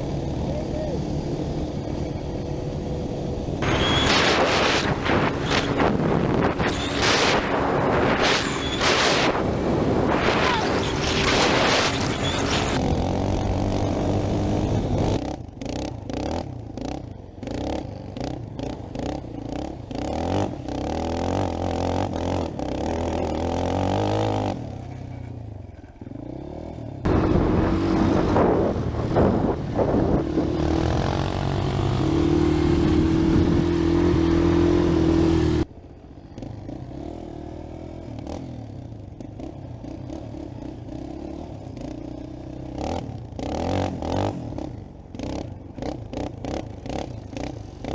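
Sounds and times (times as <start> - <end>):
atv engines revving: 0.0 - 47.9.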